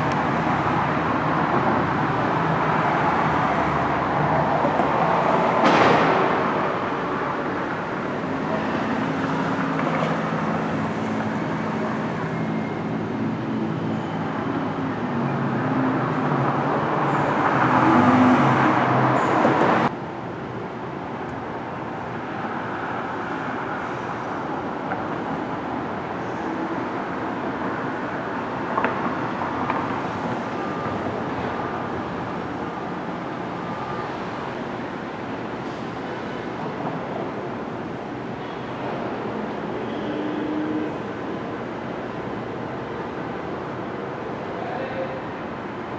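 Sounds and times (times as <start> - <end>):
steady road noise: 0.0 - 45.9.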